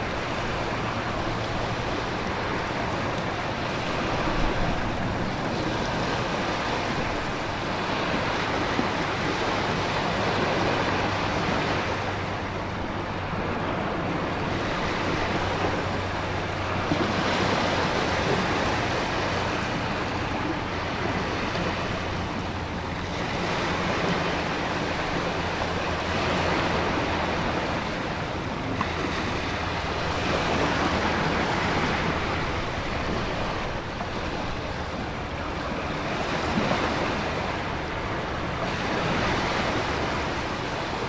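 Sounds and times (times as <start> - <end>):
ocean surf: 0.0 - 41.0.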